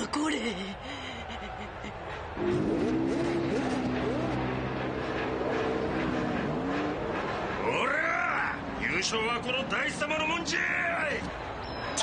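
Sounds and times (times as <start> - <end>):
race car engines revving: 1.2 - 12.0.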